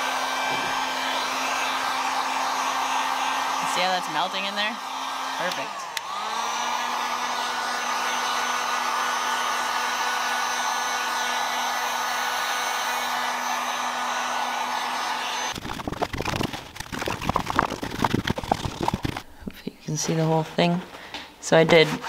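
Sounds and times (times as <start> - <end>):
heat gun blowing with motor hum: 0.0 - 19.3.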